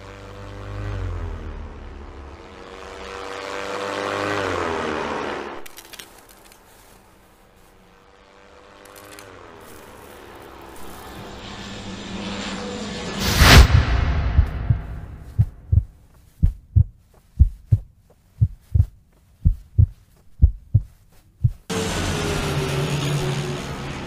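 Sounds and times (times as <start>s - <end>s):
propeller airplane engine drone: 0.0s - 19.7s, 21.6s - 24.0s.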